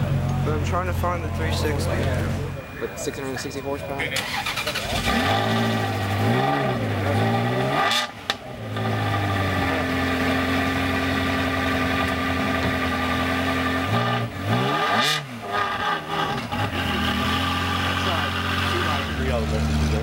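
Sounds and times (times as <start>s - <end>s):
car engine idling and revving: 0.0s - 2.8s, 3.5s - 20.0s.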